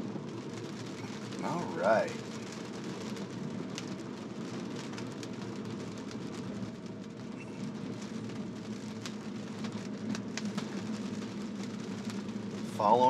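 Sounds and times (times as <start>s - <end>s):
raindrops on windshield: 0.0s - 13.0s
tyres on wet road: 0.0s - 13.0s.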